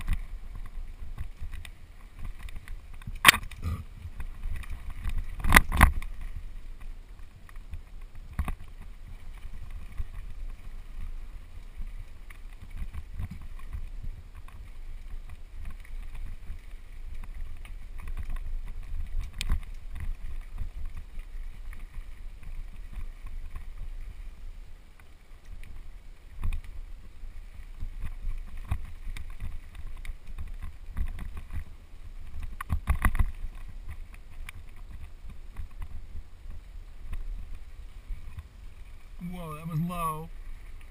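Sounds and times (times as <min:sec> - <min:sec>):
bike rattling over rough ground: 0:00.0 - 0:40.9
wind on microphone: 0:00.0 - 0:40.9.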